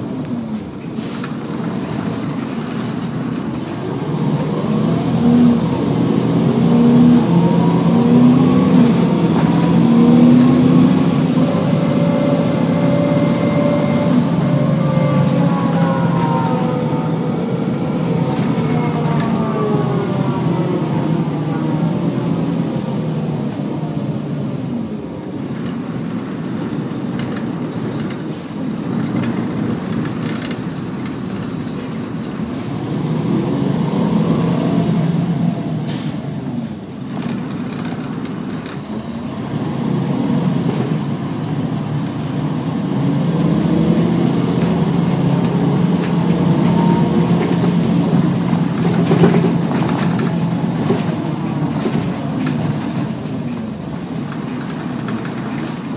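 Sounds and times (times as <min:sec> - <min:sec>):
bus diesel engine running: 0:00.0 - 0:55.9.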